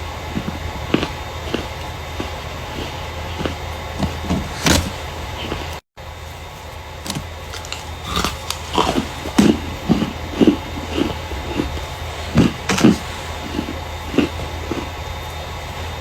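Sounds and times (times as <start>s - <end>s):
starch crunching and squeaking: 0.3s - 5.8s, 7.1s - 15.0s.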